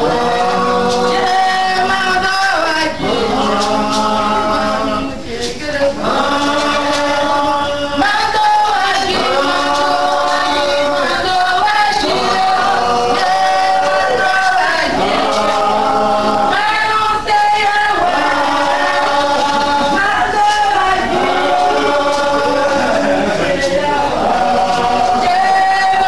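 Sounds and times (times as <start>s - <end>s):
group singing a chant: 0.0s - 26.0s.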